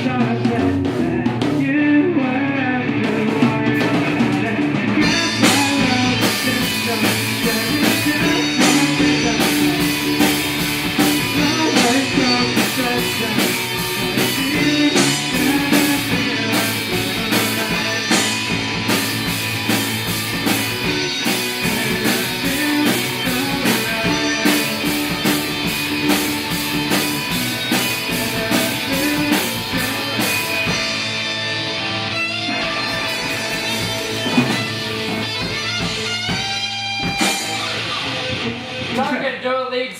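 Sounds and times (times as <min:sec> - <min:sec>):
drum kit beat: 0:00.0 - 0:39.6
strummed guitar: 0:00.0 - 0:39.6
rock band playing: 0:00.0 - 0:39.9.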